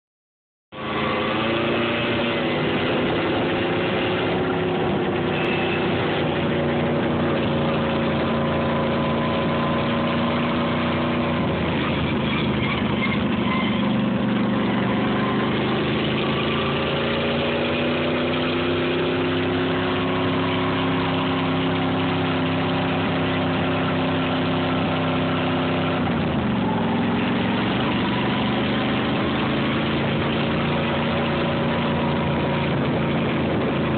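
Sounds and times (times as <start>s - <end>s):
lawn mower engine running: 0.8s - 33.9s.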